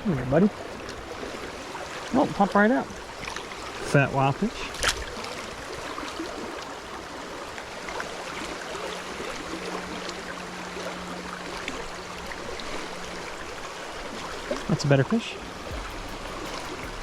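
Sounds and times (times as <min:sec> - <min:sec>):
fast river rushing: 0:00.0 - 0:17.0.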